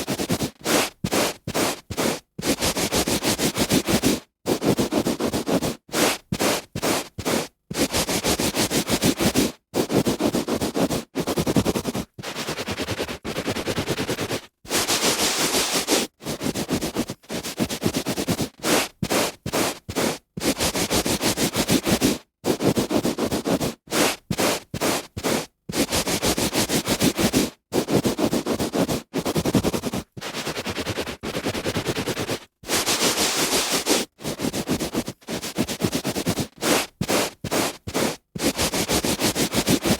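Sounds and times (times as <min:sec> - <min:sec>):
hand rubbing on carpet: 0:00.0 - 0:39.9.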